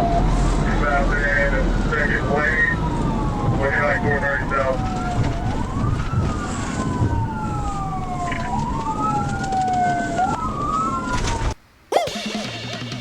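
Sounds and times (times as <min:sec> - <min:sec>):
road and engine rumble: 0:00.0 - 0:11.9
police sirens wailing: 0:00.0 - 0:12.2.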